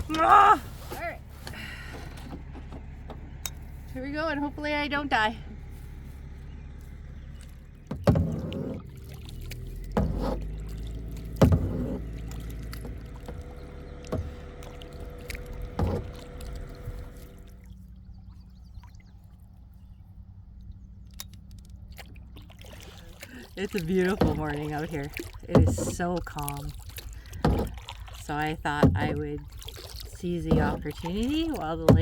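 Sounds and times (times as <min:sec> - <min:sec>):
kayak paddle splashing: 0:00.0 - 0:32.0
low rumble: 0:00.0 - 0:32.0
quiet water sounds: 0:00.0 - 0:32.0.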